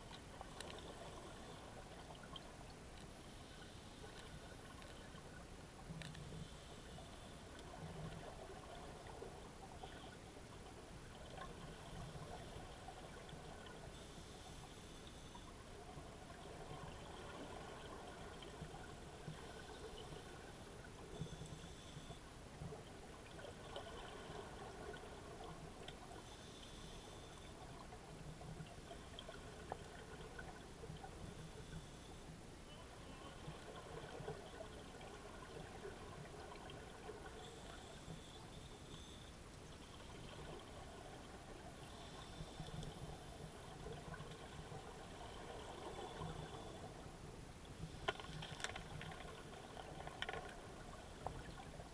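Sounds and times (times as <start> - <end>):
faint clicks: 0.0 - 51.9
steady watery hiss: 0.0 - 51.9.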